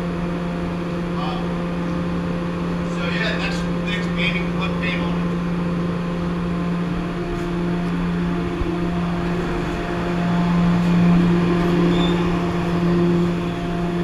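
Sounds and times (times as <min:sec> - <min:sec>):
ventilation fans humming: 0:00.0 - 0:14.0.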